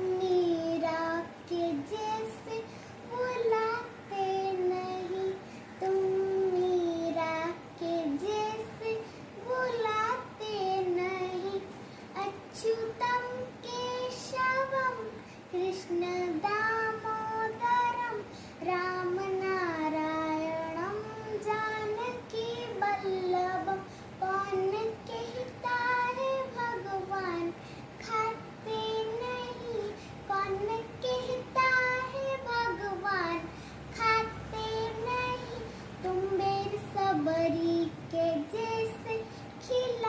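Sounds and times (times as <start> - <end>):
girl singing: 0.0 - 40.0.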